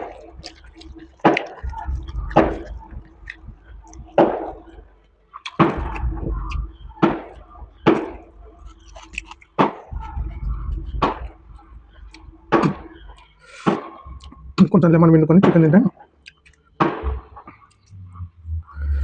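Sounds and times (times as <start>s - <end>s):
chewing with smacks and crunches: 0.0s - 14.8s, 16.0s - 18.2s
low dull thumps: 0.0s - 15.8s, 16.8s - 19.0s.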